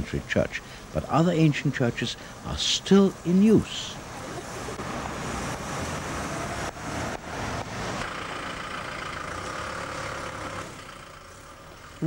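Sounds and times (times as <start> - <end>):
street traffic engines: 0.0 - 12.0.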